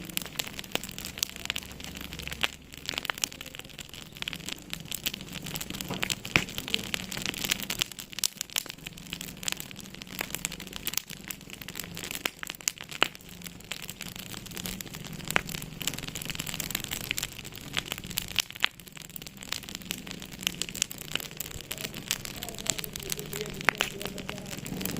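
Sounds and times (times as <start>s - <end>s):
sharp pops from fire: 0.0s - 24.9s
wood fire crackling: 0.0s - 24.9s.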